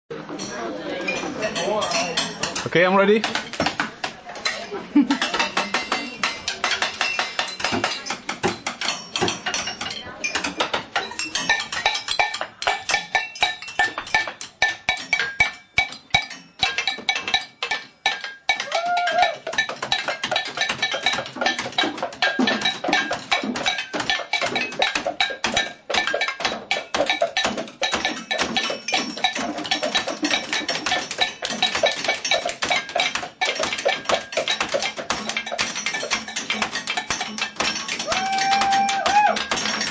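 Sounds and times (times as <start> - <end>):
drumming on kitchen objects: 1.1 - 39.9.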